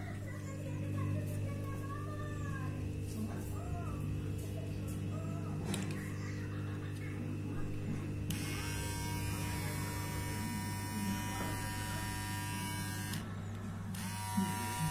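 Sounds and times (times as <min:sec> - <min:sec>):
bright buzzing: 0:00.0 - 0:14.9
hair trimmer humming: 0:00.0 - 0:14.9.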